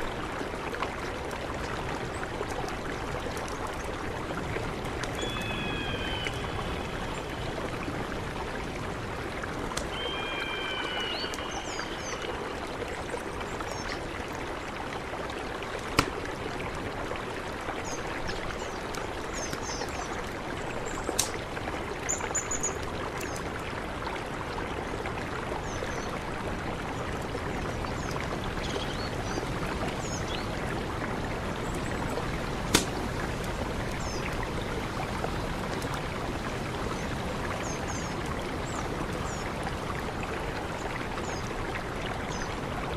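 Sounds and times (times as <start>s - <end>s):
mountain river rushing: 0.0s - 42.9s.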